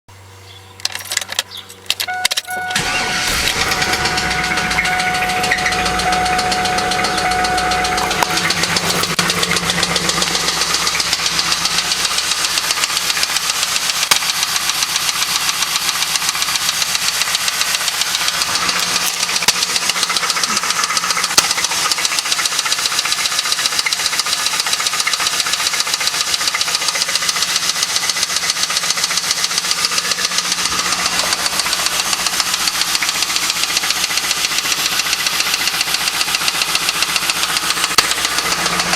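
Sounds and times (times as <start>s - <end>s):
car engine cranking and idling: 0.1s - 38.9s
rapid regular engine knock: 3.3s - 38.9s.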